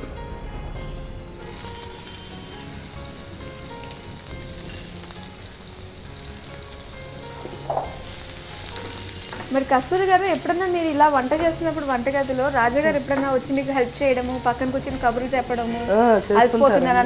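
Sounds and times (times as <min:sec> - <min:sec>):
food sizzling in hot oil: 0:01.3 - 0:17.0.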